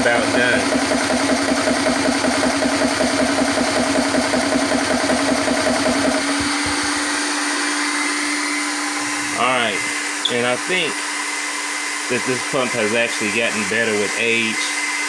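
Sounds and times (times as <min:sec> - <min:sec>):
air compressor chugging: 0:00.0 - 0:15.0.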